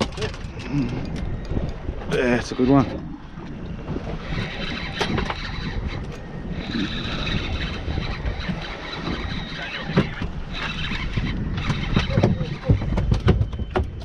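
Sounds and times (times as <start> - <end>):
low rumble and water wash: 0.0 - 14.0.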